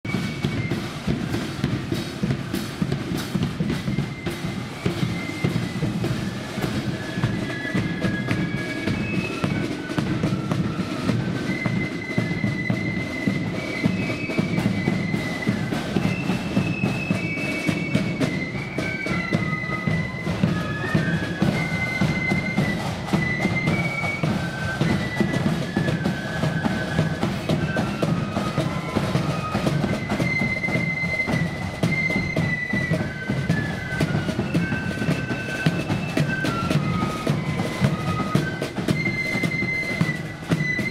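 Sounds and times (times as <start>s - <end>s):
flutes playing marching tune: 0.0s - 40.9s
steady drum beat: 0.0s - 40.9s.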